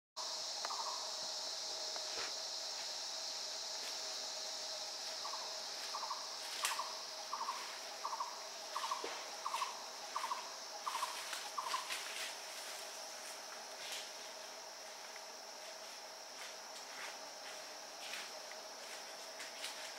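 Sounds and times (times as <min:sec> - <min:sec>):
high-pitched insect drone: 0:00.2 - 0:19.9.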